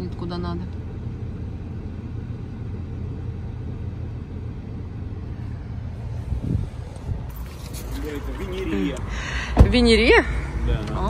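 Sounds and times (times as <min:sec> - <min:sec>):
car idling from inside: 0:00.0 - 0:11.0.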